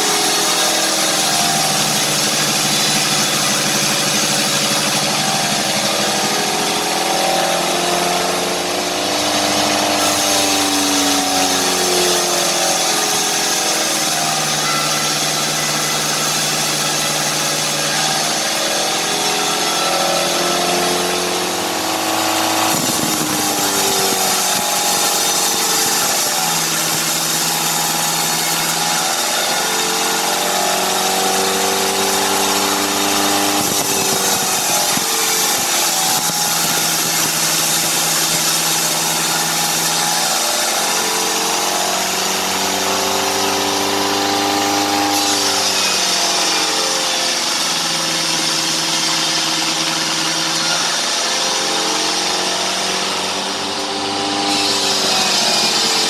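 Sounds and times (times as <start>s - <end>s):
band saw cutting log: 0.0s - 56.0s
machine hum: 0.0s - 56.0s.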